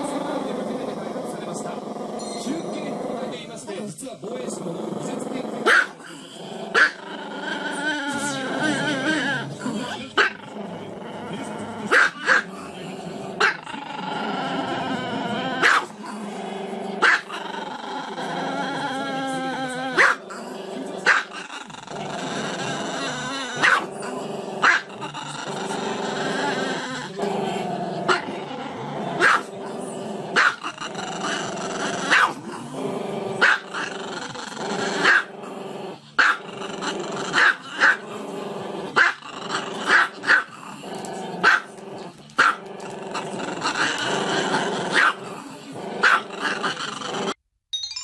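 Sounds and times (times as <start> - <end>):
small dog growling: 0.0 - 47.4.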